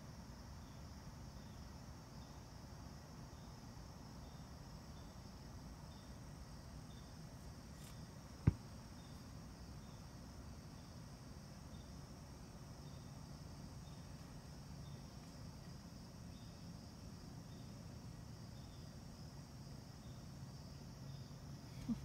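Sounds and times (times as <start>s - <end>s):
insect chirping: 0.0s - 22.0s
low steady hiss: 0.0s - 22.0s.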